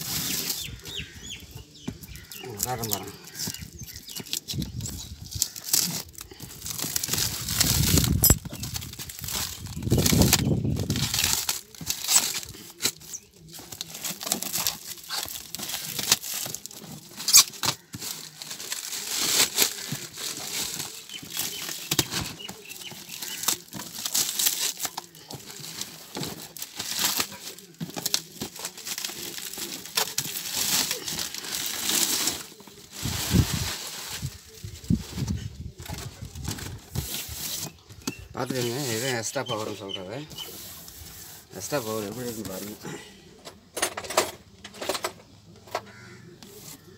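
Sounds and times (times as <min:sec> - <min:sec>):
plastic wrap crinkling: 0:02.1 - 0:42.9.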